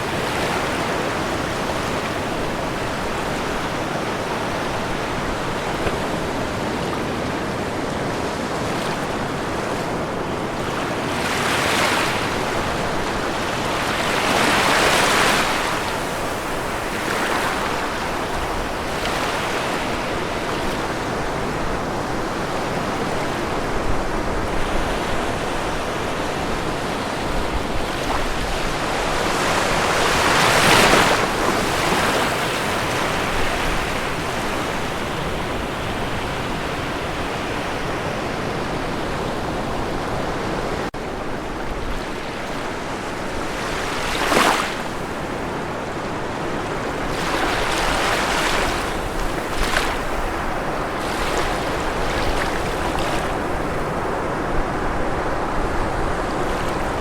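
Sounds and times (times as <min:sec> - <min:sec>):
continuous surf noise: 0:00.0 - 0:57.0
waves breaking: 0:00.0 - 0:57.0.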